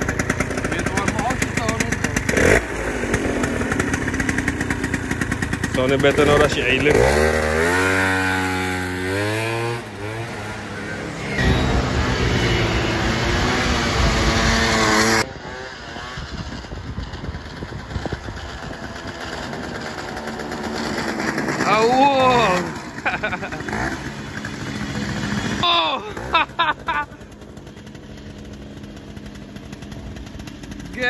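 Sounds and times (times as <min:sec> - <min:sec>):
scooter engine revving: 0:00.0 - 0:31.0.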